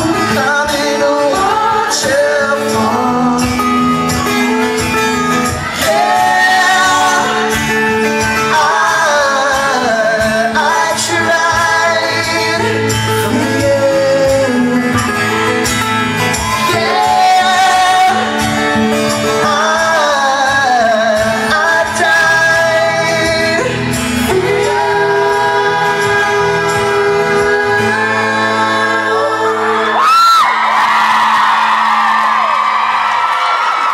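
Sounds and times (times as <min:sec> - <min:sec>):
person singing: 0:00.0 - 0:30.6
live band playing: 0:00.0 - 0:33.6.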